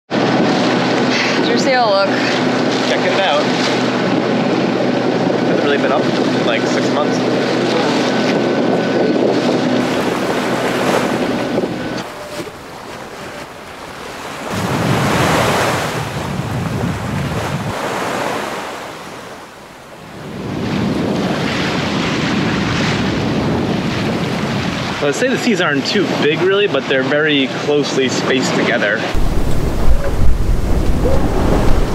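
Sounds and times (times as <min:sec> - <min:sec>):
wind buffeting microphone: 0:00.1 - 0:25.1, 0:29.1 - 0:31.9
waves rushing along hull: 0:00.1 - 0:31.9.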